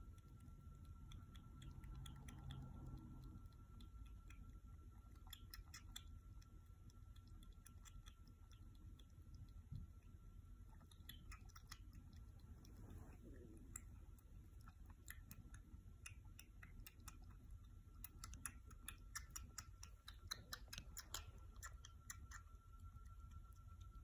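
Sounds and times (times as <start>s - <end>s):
kitten suckling clicks: 0.0s - 24.0s.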